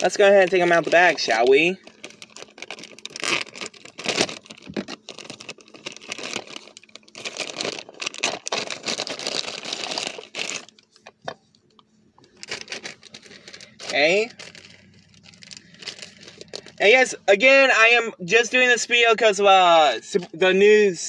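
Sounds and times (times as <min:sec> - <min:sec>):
plastic bag crinkling: 0:00.0 - 0:16.9.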